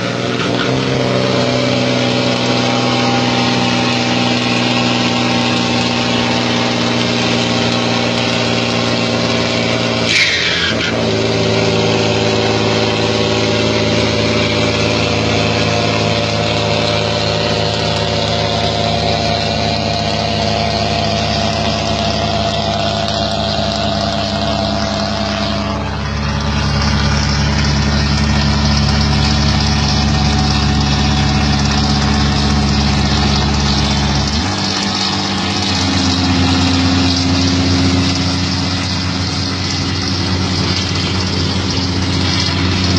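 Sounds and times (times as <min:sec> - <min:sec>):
heavy truck engine running: 0:00.0 - 0:42.9.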